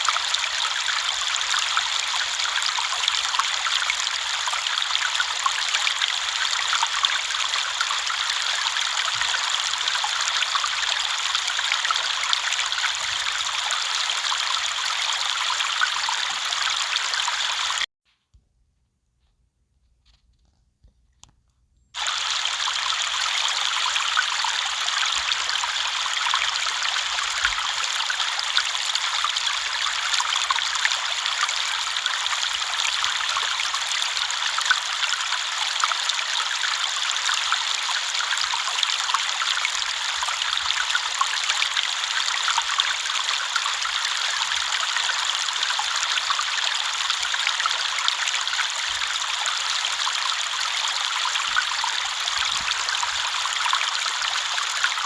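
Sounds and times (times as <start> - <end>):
river water flowing: 0.0 - 17.8, 22.0 - 55.0.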